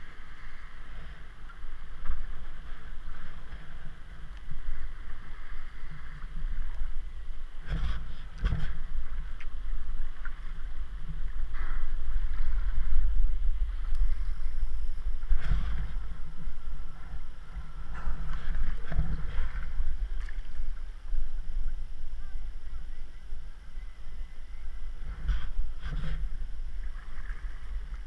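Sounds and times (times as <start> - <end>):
paddle strokes splashing water: 0.0 - 28.0
wind rumble on microphone: 0.0 - 28.0.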